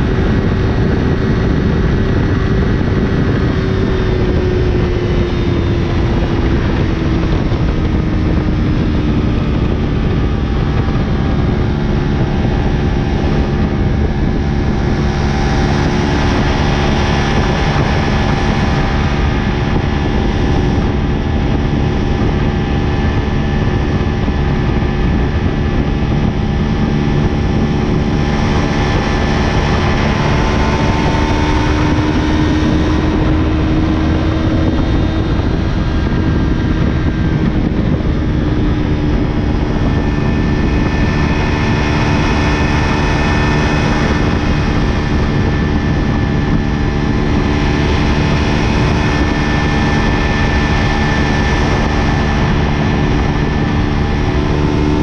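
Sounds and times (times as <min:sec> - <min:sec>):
motorcycle engine at high rpm: 0:00.0 - 0:55.0
wind rush on microphone: 0:00.0 - 0:55.0.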